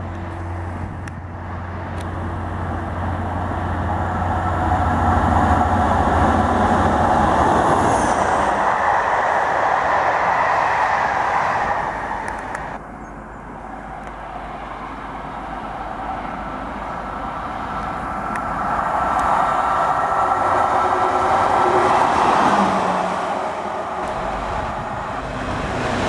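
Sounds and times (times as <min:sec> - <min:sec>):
electric locomotive approaching: 0:00.0 - 0:26.0
train coaches rolling past: 0:00.0 - 0:26.0.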